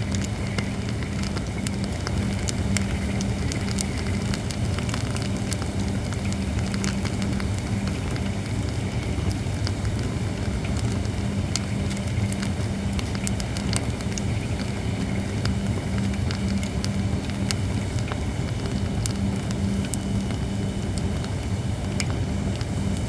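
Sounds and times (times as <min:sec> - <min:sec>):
campfire crackling and popping: 0:00.0 - 0:23.0
steady low hum: 0:00.0 - 0:23.0.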